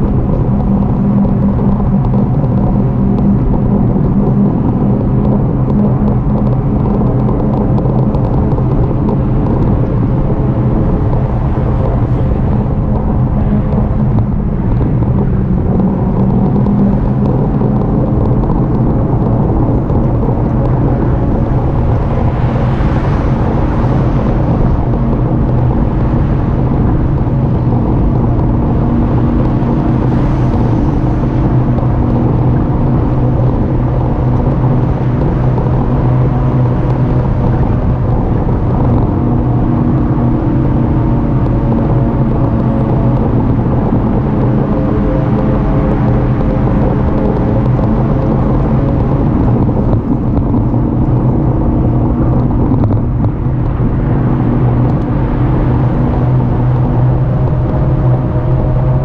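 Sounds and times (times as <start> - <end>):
low motor hum: 0.0 - 59.0
vehicles passing: 0.0 - 59.0
wind and road rumble: 0.0 - 59.0.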